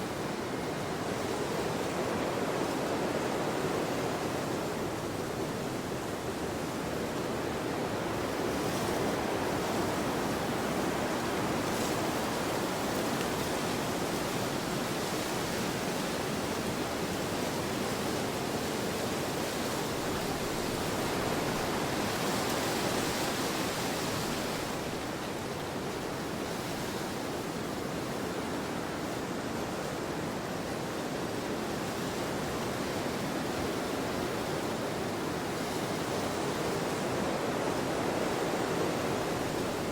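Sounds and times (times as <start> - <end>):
wind blowing in gusts: 0.1 - 39.9.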